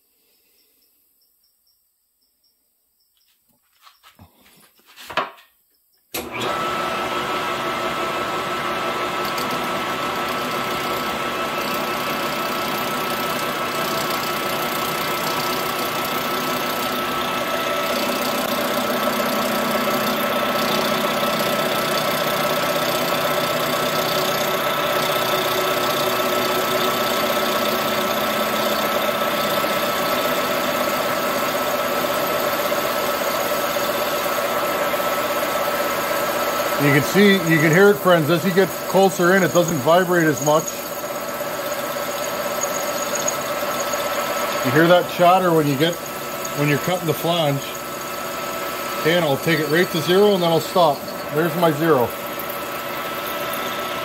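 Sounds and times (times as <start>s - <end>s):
metal lathe cutting with chatter: 6.2s - 54.0s.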